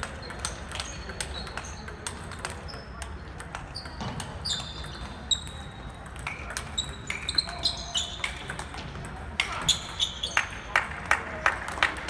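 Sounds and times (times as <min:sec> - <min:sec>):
table tennis ball hitting paddles: 0:00.0 - 0:10.5.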